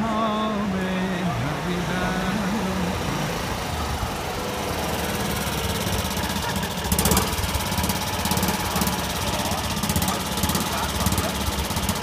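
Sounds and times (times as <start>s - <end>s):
small car engine idling: 0.0s - 12.0s.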